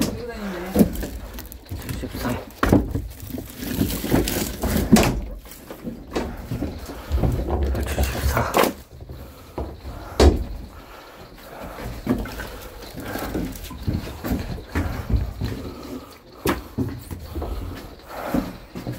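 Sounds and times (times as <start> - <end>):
firewood scraping: 0.0 - 10.1, 10.8 - 18.9.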